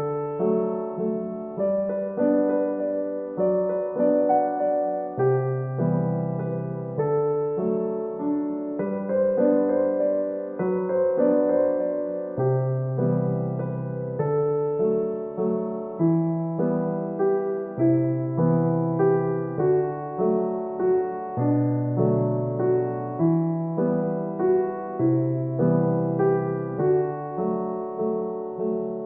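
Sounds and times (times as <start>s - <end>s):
gentle solo piano piece: 0.0s - 29.0s.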